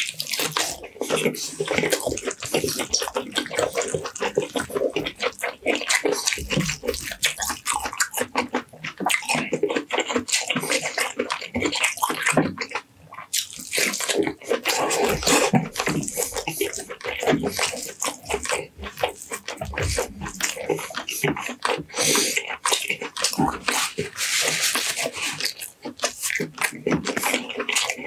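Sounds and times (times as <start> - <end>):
wet chewing and lip-smacking: 0.0 - 28.0.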